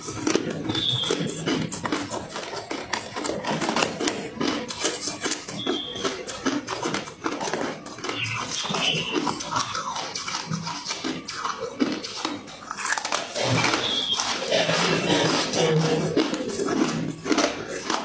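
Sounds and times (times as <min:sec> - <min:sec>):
person chewing crunchy ice: 0:00.0 - 0:18.0.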